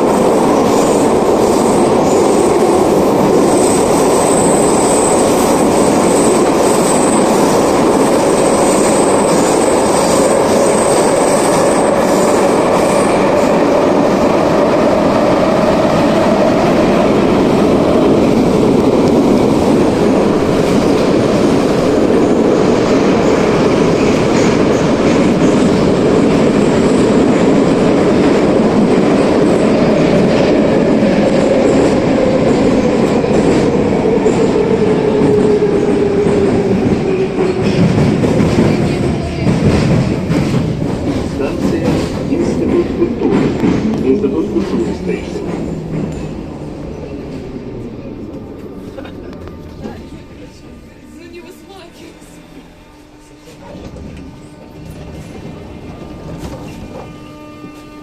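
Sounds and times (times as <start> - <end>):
metro train wheels rumbling: 0.0 - 58.0.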